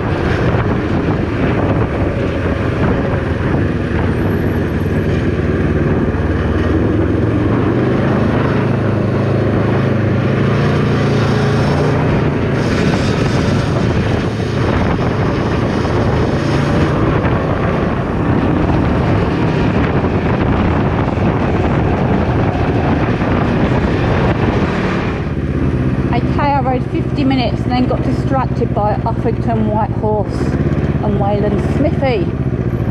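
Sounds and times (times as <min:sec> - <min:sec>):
motorcycle engine running: 0:00.0 - 0:32.9
wind rush on microphone: 0:00.0 - 0:32.9.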